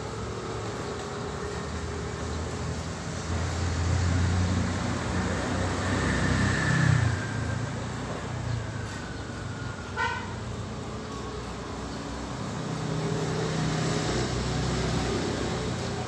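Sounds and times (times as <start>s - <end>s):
vehicle passing on road: 0.0s - 16.0s.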